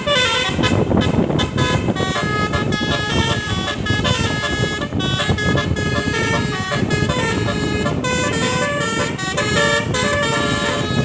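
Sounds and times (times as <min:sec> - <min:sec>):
musical air horn melody: 0:00.0 - 0:11.0.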